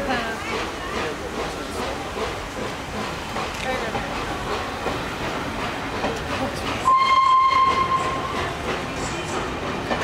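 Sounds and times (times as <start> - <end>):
train wheels rumbling and clattering: 0.0 - 10.0.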